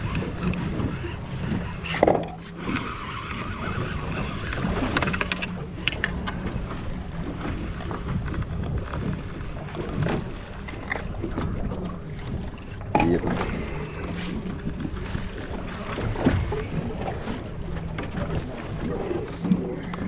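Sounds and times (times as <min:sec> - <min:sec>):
water against boat hull: 0:00.0 - 0:20.0.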